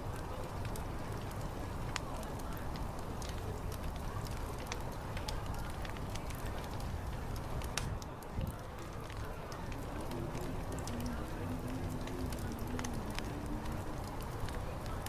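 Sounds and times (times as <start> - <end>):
faint chatter: 0.0 - 15.0
fire crackling and popping: 0.0 - 15.0.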